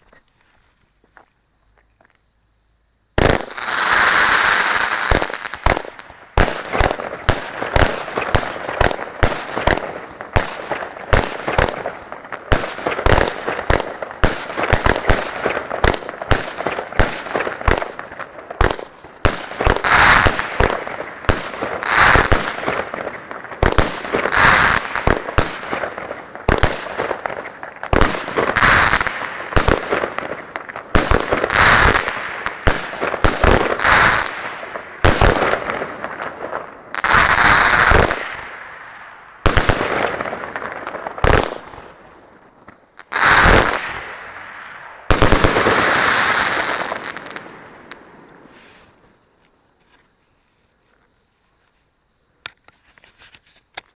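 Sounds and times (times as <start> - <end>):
fireworks bangs and crackling: 3.2 - 50.7
fireworks hissing rush: 3.2 - 52.3.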